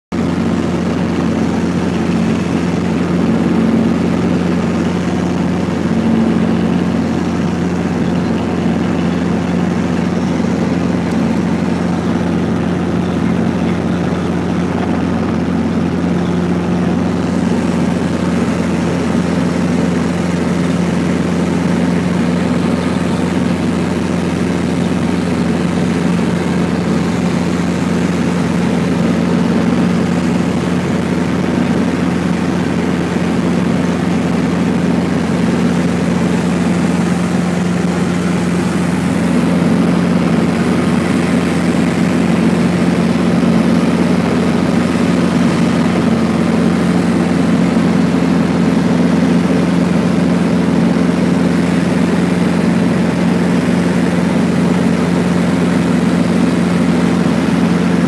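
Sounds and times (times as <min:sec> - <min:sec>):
helicopter rotor and engine drone: 0:00.1 - 0:58.0.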